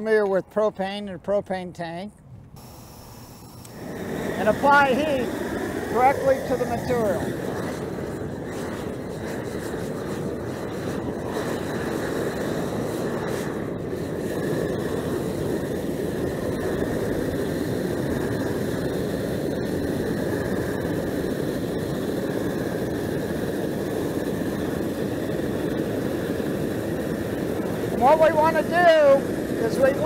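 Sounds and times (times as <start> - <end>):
torch flame rushing: 2.3 - 30.0.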